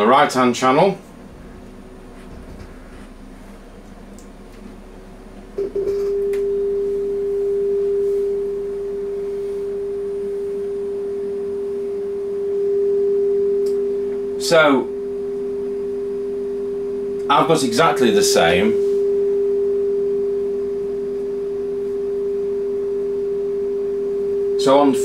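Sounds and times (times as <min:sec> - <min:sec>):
sine wave test tone: 0:00.0 - 0:25.0.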